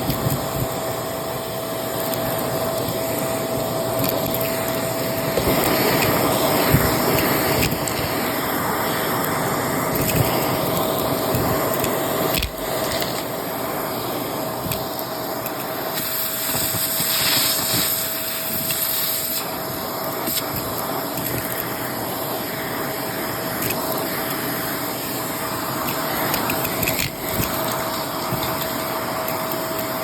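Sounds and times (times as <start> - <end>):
vacuum cleaner whining: 0.0 - 30.0
debris crackling through nozzle: 2.0 - 22.0, 23.3 - 30.0.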